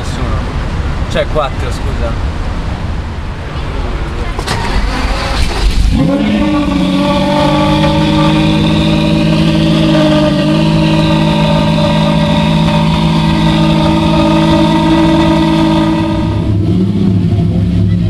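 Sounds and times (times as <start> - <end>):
car engine idling: 0.8 - 18.0.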